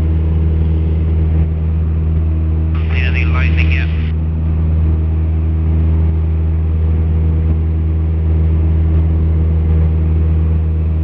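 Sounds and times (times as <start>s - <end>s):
airplane engine droning in cabin: 0.0s - 11.0s.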